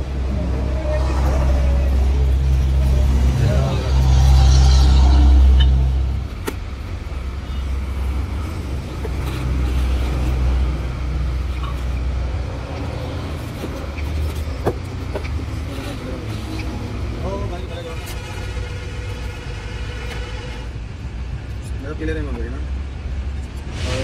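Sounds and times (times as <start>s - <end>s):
engine running low rumble: 0.0s - 24.0s.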